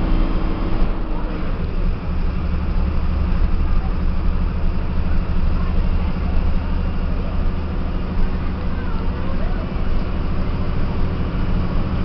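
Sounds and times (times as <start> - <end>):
bus diesel engine droning: 0.0 - 12.0
road noise: 0.0 - 12.0.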